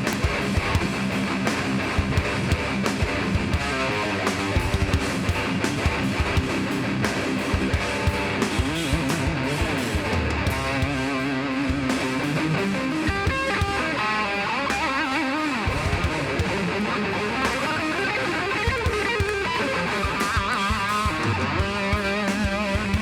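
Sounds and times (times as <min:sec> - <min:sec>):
bending lead guitar notes: 0:00.0 - 0:23.0
metal band playing live: 0:00.0 - 0:23.0.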